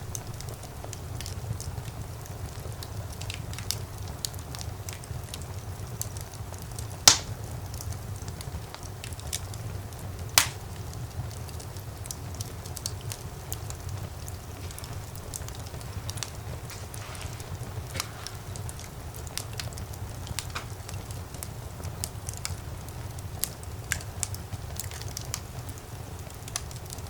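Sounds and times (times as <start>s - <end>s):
low fire rumble: 0.0s - 27.0s
wood fire crackling: 0.0s - 27.0s.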